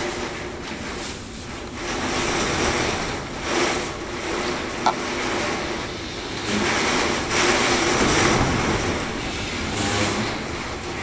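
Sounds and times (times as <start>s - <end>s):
driving rain: 0.0s - 11.0s.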